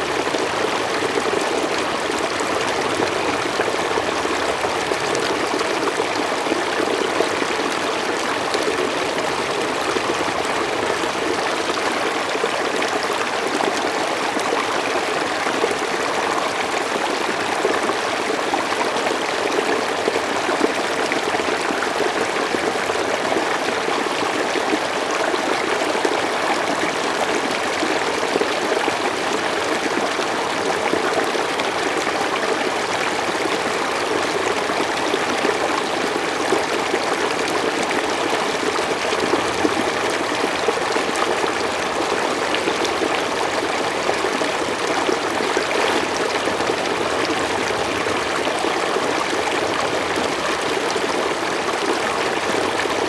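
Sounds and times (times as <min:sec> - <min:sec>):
stream flowing over rocks: 0:00.0 - 0:53.0.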